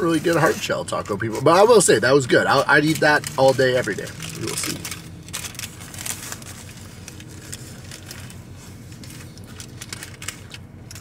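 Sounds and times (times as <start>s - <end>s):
low hum inside a car: 0.0s - 11.0s
paper wrapper crinkling: 0.0s - 11.0s
taco chewing: 1.7s - 11.0s.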